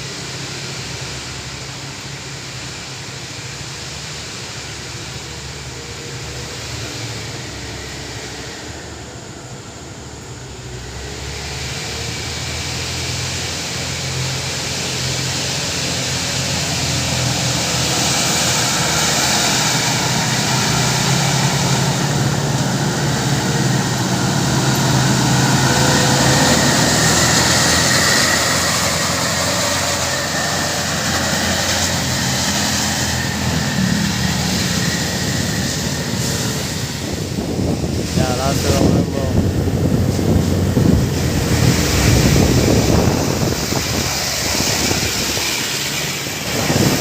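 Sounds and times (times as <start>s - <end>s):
truck diesel engine labouring: 0.0s - 47.0s
tyre and road noise: 0.0s - 47.0s.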